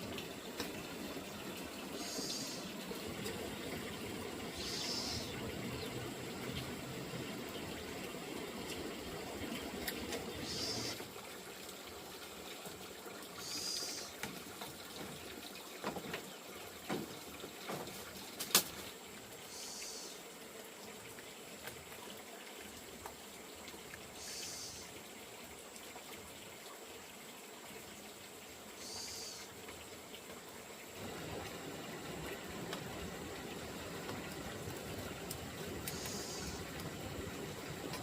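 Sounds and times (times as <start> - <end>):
water trickling: 0.0 - 38.0.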